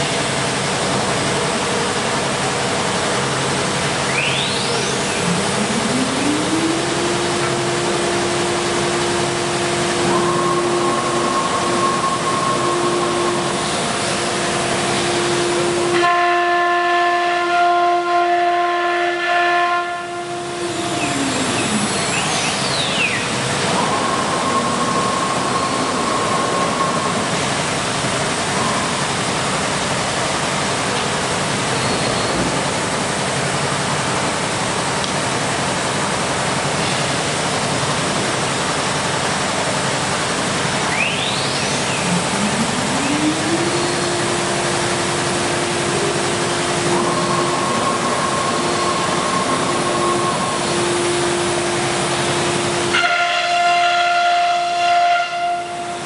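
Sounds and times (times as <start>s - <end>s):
cnc spindle whine: 2.7s - 30.8s, 38.8s - 56.0s.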